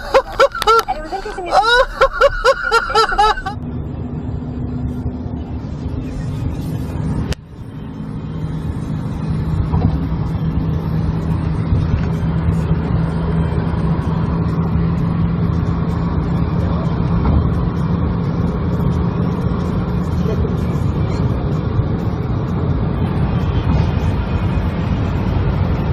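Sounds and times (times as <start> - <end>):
road noise: 0.0 - 25.9
vehicle engine drone: 0.0 - 25.9.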